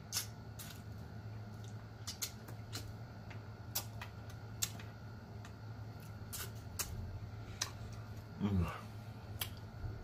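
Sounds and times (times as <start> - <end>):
chewing and sucking mouth sounds: 0.0 - 8.4, 9.3 - 9.8
faint low hum: 0.0 - 10.0.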